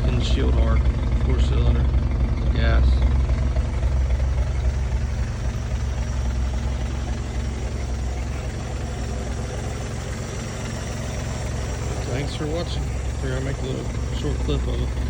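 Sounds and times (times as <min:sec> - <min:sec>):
welder engine idling: 0:00.0 - 0:15.0.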